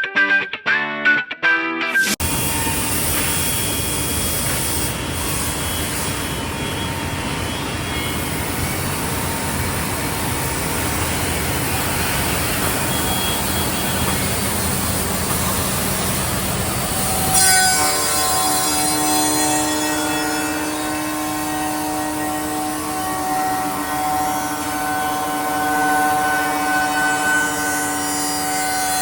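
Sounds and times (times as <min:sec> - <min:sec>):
machine whine of held tones: 0:02.2 - 0:29.0
wood router cutting wood: 0:02.2 - 0:29.0.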